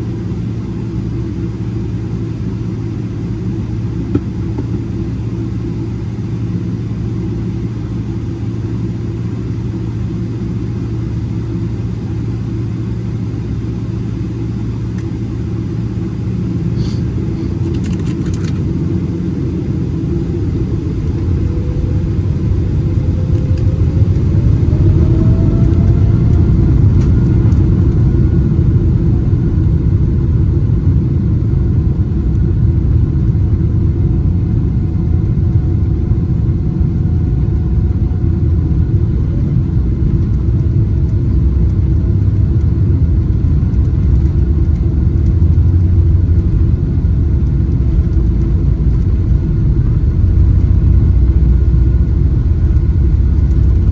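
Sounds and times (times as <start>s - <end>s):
airplane cabin rumble: 0.0s - 53.9s
jet engine whine rising: 0.0s - 53.9s.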